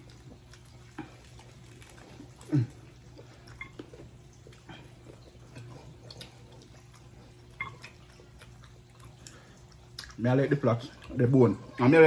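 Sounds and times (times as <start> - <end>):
chewing with wet clicks: 0.0 - 11.9.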